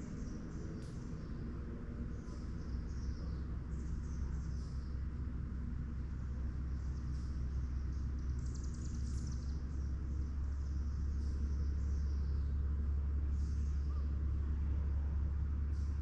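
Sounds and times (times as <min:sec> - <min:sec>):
songbirds chirping: 0:00.0 - 0:16.0
steady low rumble: 0:00.0 - 0:16.0.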